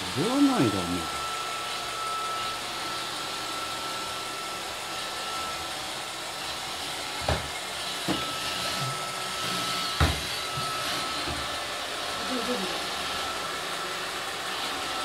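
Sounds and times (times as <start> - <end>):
robot vacuum whirring: 0.0 - 15.0.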